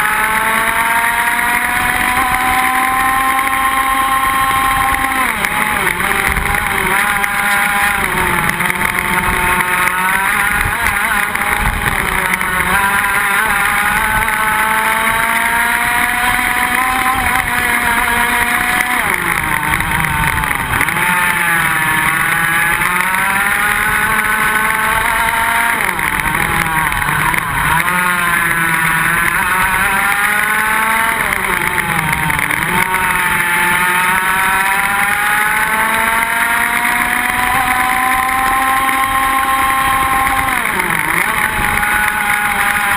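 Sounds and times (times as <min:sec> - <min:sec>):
kart engine revving: 0:00.0 - 0:42.9.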